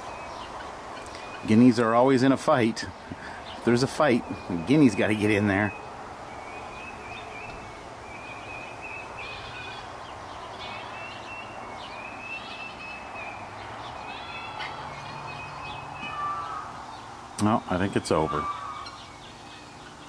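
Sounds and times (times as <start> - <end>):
birds calling in high notes: 0.0 - 20.0
steady background hiss: 0.0 - 20.0.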